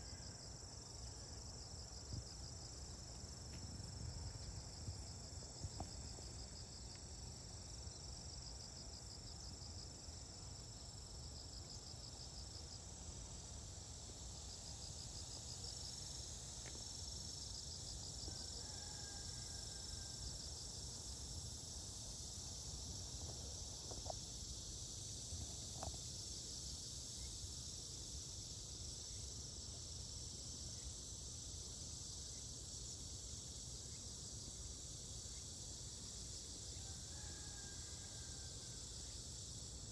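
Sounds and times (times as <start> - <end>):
rapid pulsed insect trills: 0.0 - 39.9.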